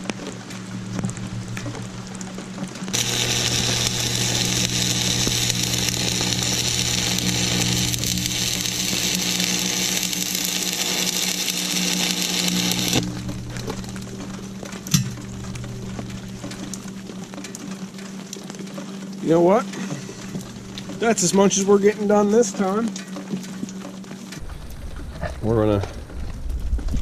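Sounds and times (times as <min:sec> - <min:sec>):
steady low hum: 0:00.0 - 0:23.0
welder arc crackling sizzle: 0:00.0 - 0:24.5.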